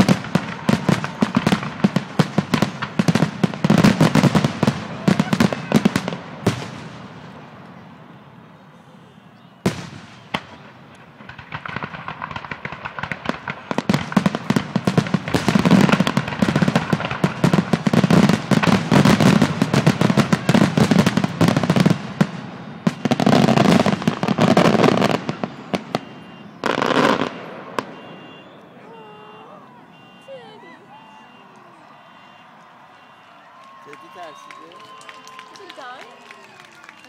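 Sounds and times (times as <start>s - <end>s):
firework bangs and crackles: 0.0s - 8.6s, 9.6s - 37.0s.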